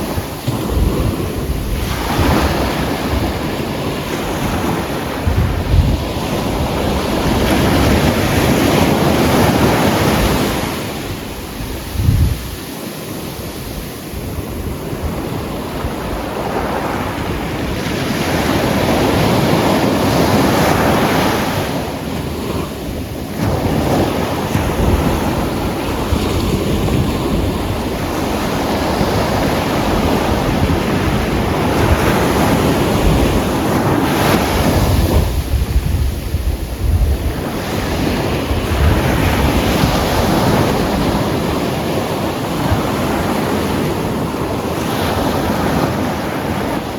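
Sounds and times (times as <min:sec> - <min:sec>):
surf washing up pebble beach: 0:00.0 - 0:46.9
wind buffeting microphone: 0:00.0 - 0:46.9.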